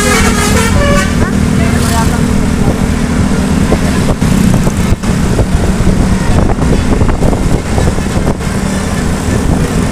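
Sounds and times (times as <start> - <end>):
bus diesel engine running: 0.0 - 9.9.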